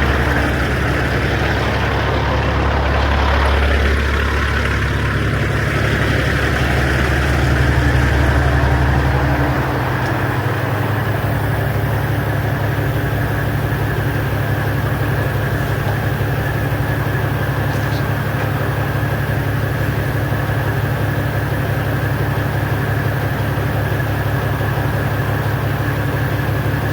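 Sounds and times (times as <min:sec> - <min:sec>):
diesel truck engine droning: 0:00.0 - 0:26.9.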